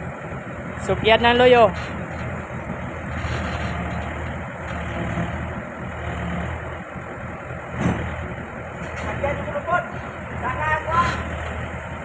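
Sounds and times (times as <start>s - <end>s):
backhoe diesel engine hum: 0.0s - 12.0s.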